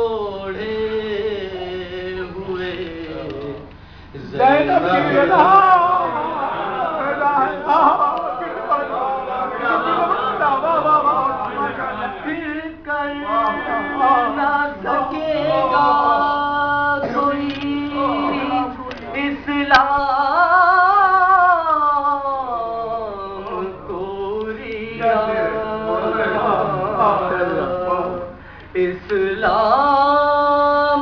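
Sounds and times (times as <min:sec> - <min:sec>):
man singing devotional recitation: 0:00.0 - 0:31.0.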